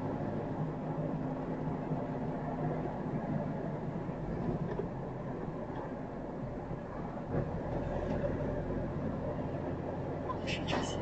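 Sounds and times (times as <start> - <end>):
vehicle cab engine and road drone: 0.0 - 11.0.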